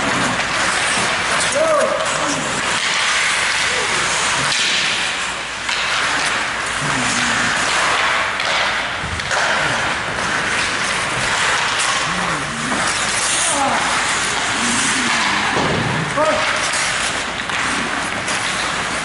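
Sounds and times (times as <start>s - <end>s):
skates scraping on ice: 0.0s - 19.0s.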